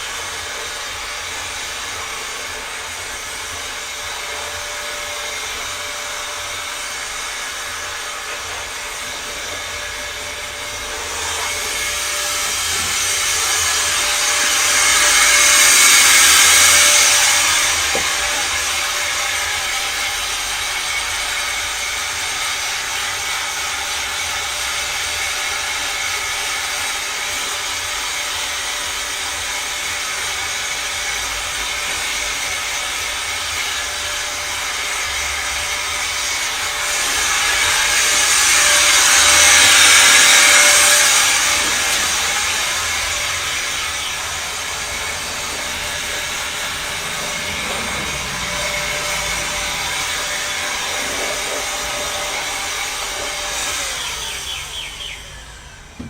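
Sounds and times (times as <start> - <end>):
electric air blower running: 0.0 - 56.0.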